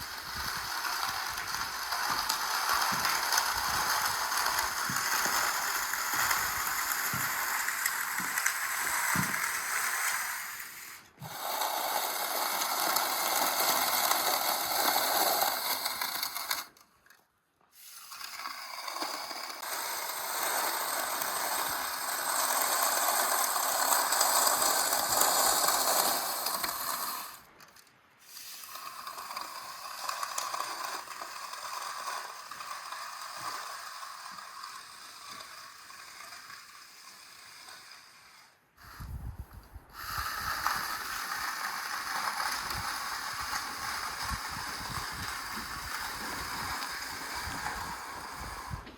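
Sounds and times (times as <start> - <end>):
tools scraping concrete: 0.0 - 39.2, 40.0 - 48.9.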